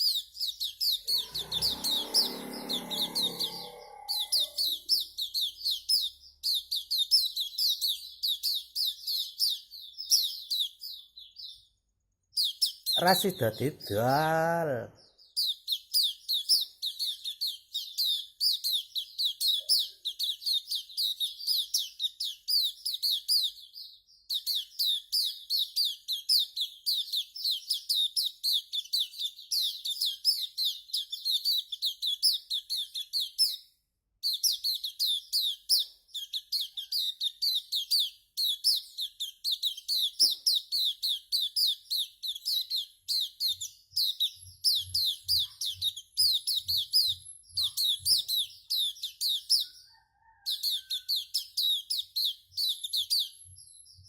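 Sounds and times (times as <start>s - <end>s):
songbird rapid chirping: 0.0s - 54.0s.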